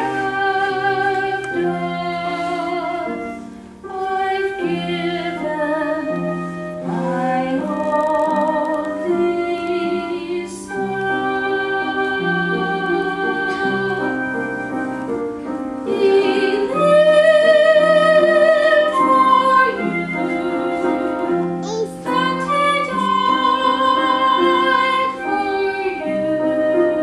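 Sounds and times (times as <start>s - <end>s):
woman singing: 0.0s - 14.6s, 15.9s - 21.4s, 22.0s - 27.0s
piano accompaniment: 0.0s - 27.0s.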